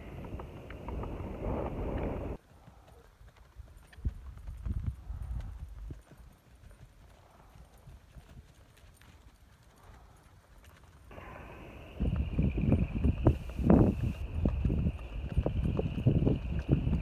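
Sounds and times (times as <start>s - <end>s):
hooves clip-clopping on gravel: 0.0s - 17.0s.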